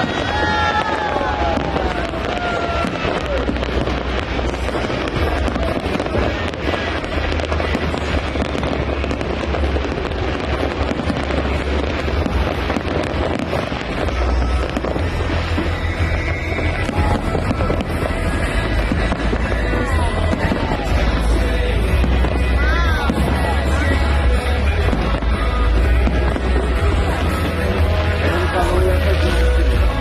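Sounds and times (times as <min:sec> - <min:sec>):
firework whistles: 0:00.0 - 0:28.6
fireworks crackles and bangs: 0:00.0 - 0:30.0.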